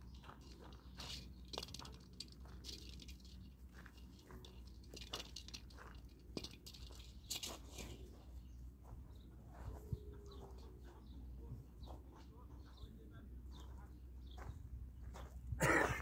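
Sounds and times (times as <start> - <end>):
footsteps and paws on gravel: 0.0 - 15.5.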